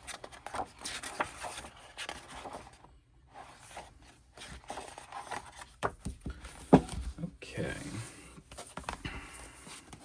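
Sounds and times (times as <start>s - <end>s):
pages rustling and turning: 0.0s - 7.2s, 7.8s - 10.0s.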